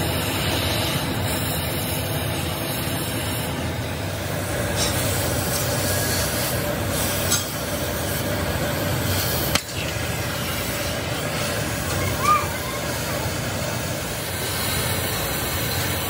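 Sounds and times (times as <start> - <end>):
cutting torch hissing: 0.0 - 16.0.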